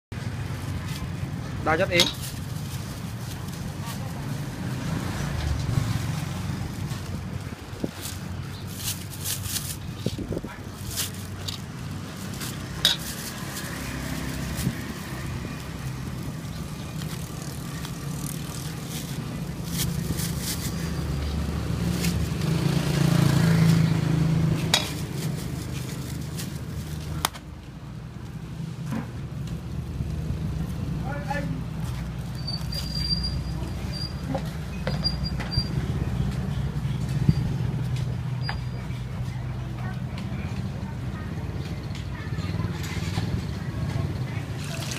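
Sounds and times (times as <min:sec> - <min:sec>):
traffic engine rumble: 0:00.1 - 0:44.9.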